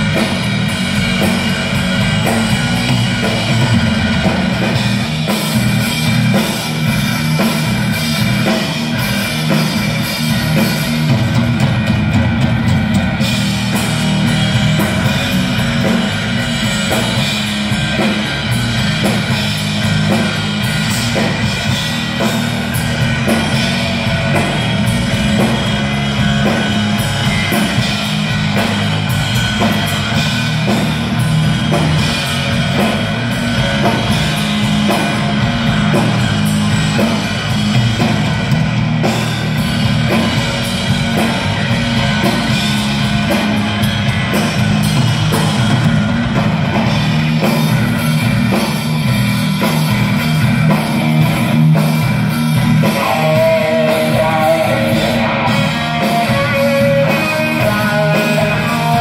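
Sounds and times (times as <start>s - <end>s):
drum kit beat: 0.0s - 59.0s
rock band playing: 0.0s - 59.0s.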